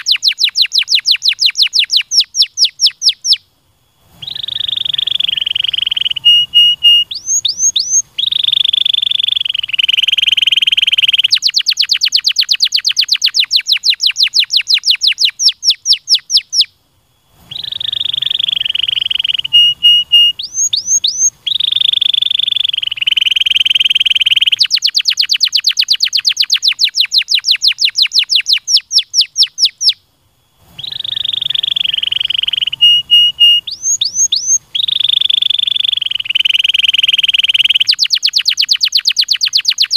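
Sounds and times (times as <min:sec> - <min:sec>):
canary singing trills: 0:00.0 - 0:30.0, 0:30.6 - 0:39.9.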